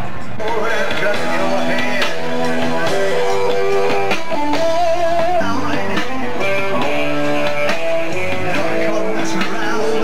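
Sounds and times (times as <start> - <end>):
rock music with electric guitar: 0.0 - 10.0.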